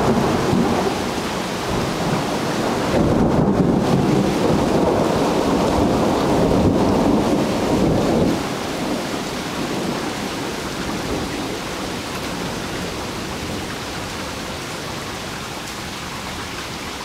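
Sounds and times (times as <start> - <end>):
thunder rumble: 0.0 - 14.6
steady rain hiss: 0.0 - 17.0.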